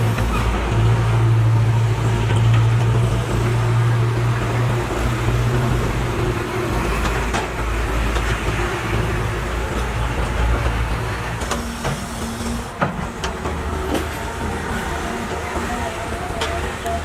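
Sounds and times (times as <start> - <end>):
diesel machinery engine hum: 0.0 - 17.0.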